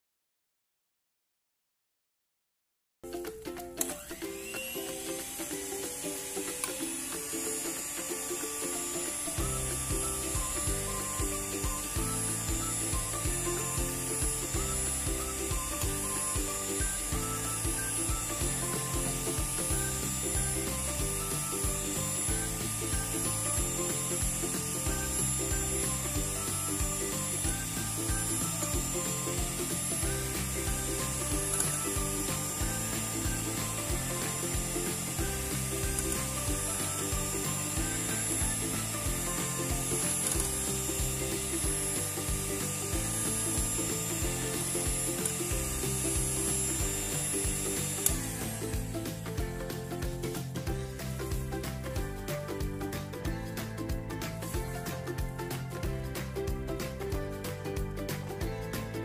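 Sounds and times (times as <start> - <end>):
background music with steady beat: 3.1 - 59.0
electric hand mixer whipping: 3.8 - 53.1.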